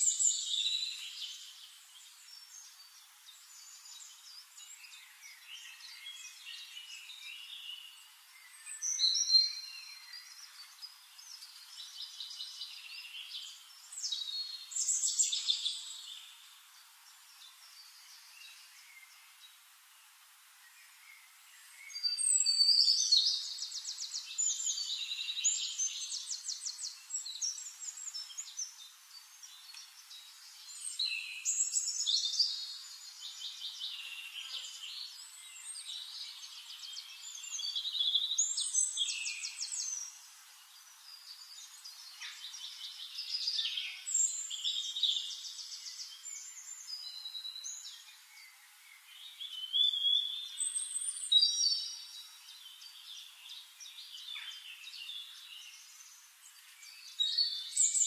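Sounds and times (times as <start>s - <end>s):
songbird trills and chirps: 0.0s - 58.0s.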